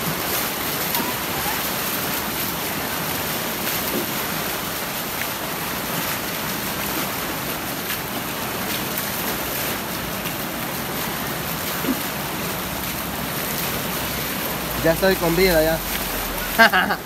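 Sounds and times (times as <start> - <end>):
floodwater rushing down a street: 0.0 - 17.0.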